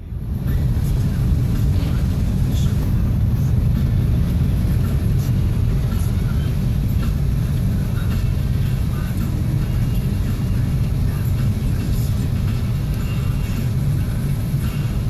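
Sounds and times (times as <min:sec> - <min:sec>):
car engine rumble: 0:00.0 - 0:15.0
tyres on snowy road: 0:00.0 - 0:15.0.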